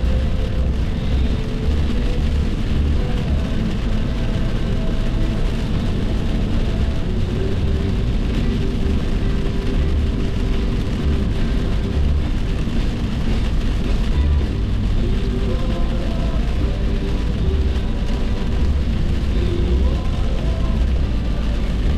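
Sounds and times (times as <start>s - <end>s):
car driving at highway speed: 0.0s - 21.9s.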